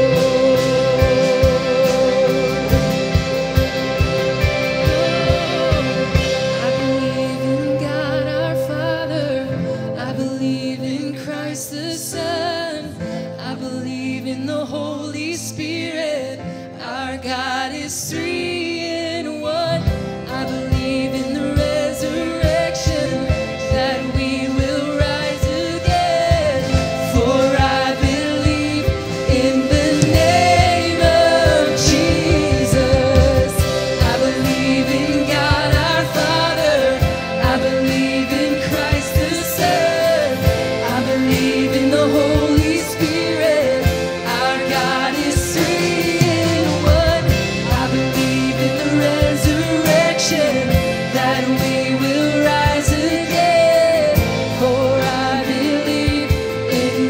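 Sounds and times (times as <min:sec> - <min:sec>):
drums: 0:00.0 - 0:11.4, 0:19.5 - 0:57.0
keyboard playing: 0:00.0 - 0:12.7, 0:19.5 - 0:57.0
acoustic guitar: 0:00.0 - 0:57.0
bass guitar: 0:00.0 - 0:57.0
woman singing lead: 0:00.0 - 0:57.0.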